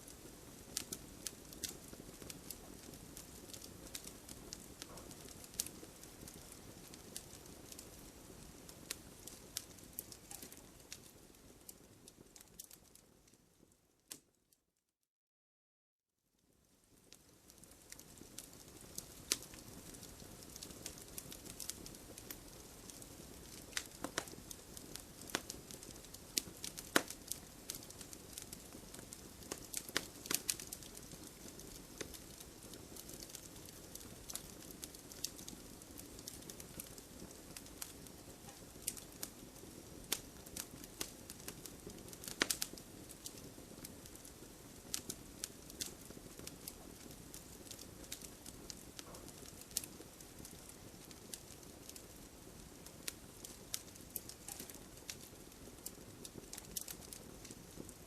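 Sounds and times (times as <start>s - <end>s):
low hiss of flame: 0.0s - 13.1s, 16.6s - 58.0s
burning logs popping and snapping: 0.1s - 12.9s, 17.0s - 58.0s.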